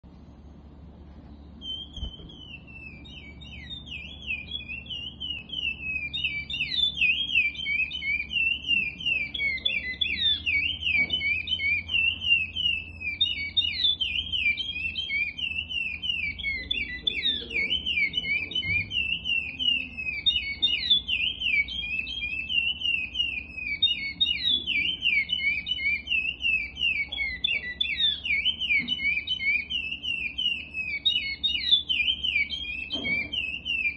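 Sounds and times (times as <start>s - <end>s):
finch singing whistled song: 1.2s - 33.9s.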